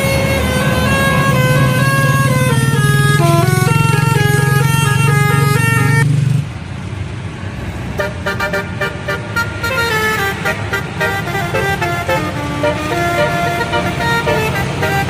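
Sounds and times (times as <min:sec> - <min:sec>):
musical bus horn tune: 0:00.0 - 0:06.0, 0:08.0 - 0:15.0
bus engine running: 0:00.0 - 0:15.0.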